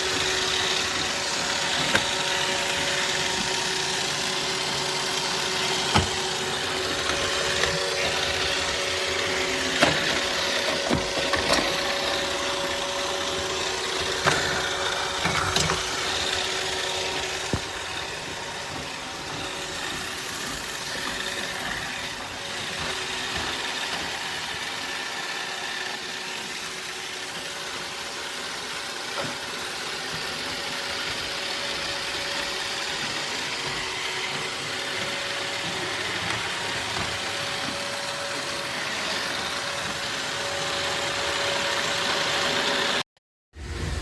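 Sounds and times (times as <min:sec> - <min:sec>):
robot vacuum whirring: 0:00.0 - 0:43.0.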